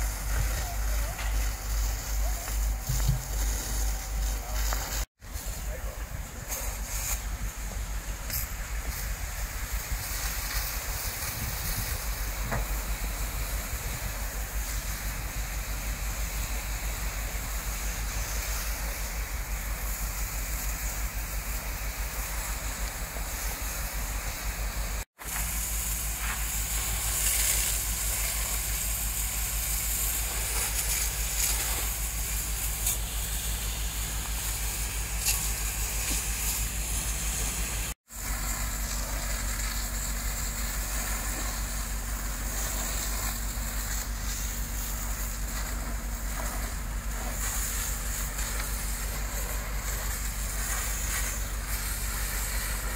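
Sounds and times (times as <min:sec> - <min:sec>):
hiss of fire and water spray: 0:00.0 - 0:52.9
low engine drone: 0:00.0 - 0:52.9.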